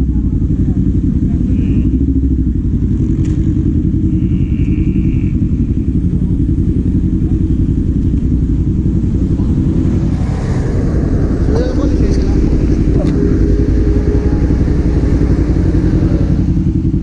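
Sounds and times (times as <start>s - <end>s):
motorcycle engine idling low: 0.0s - 17.0s.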